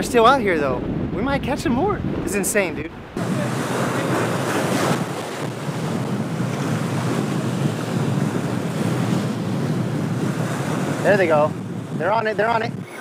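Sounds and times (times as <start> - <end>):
wind rumbling on microphone: 0.0 - 13.0
surf breaking against rocks: 0.1 - 13.0.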